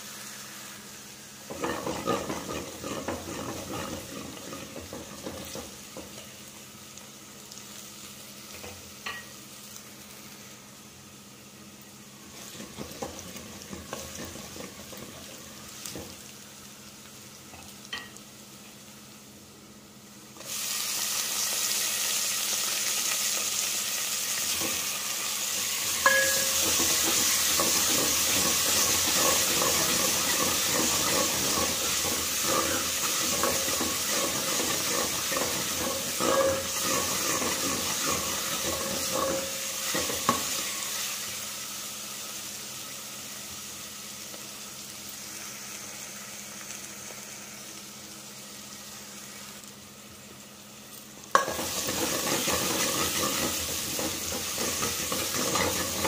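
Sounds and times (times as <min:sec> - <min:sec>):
garlic sizzling in hot oil: 0:00.0 - 0:56.0.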